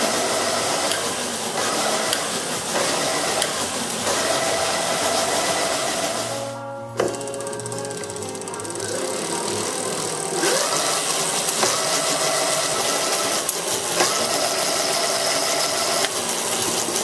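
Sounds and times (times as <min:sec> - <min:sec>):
electric motor whir: 0:00.0 - 0:17.0.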